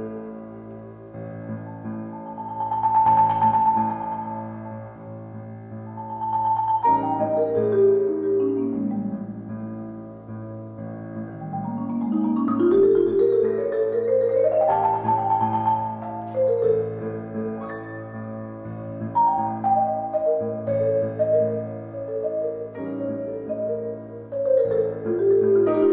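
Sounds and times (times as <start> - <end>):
sustained piano accompaniment: 0.0 - 25.9.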